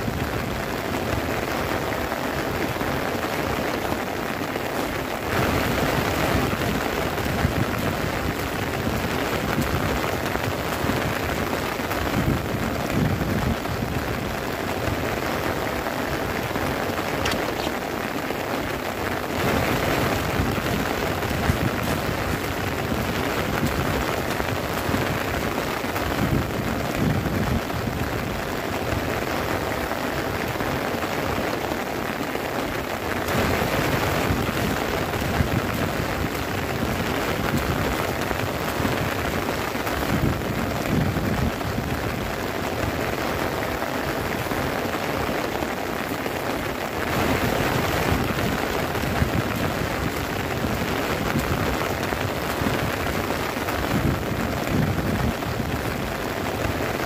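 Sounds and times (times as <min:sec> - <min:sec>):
heavy rain on tent fabric: 0:00.0 - 0:57.0.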